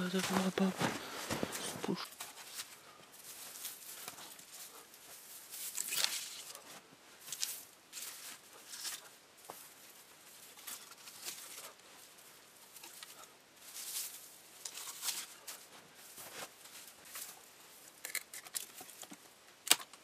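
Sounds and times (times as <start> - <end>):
spruce boughs rustling: 0.0 - 19.2.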